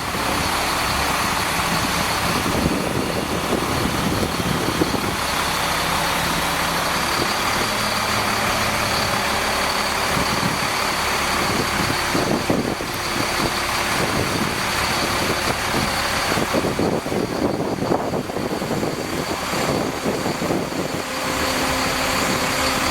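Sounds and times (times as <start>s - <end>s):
truck engine running: 0.0s - 22.9s.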